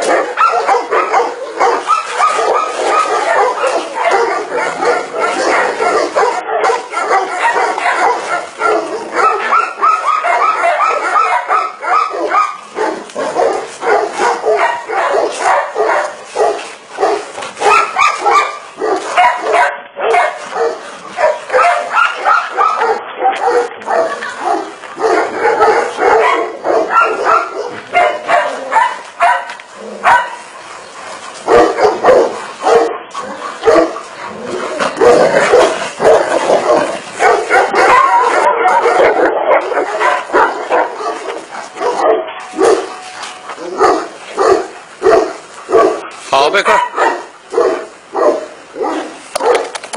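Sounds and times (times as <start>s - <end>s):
dogs fighting barking and yelping: 0.0s - 49.9s.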